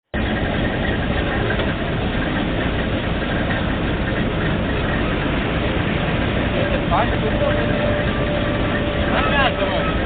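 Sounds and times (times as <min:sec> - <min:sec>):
drilling rig engine running: 0:00.1 - 0:10.0.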